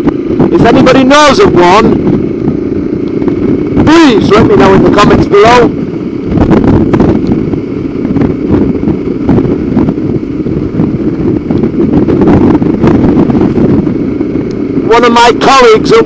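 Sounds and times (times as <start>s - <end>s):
motorcycle running: 0.0s - 16.0s
wind rushing over microphone: 0.0s - 16.0s.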